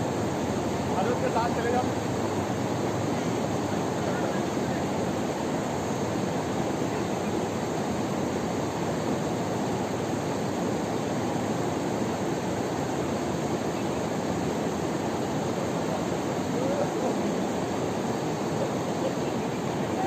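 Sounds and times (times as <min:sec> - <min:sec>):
river rushing over rocks: 0:00.0 - 0:20.0.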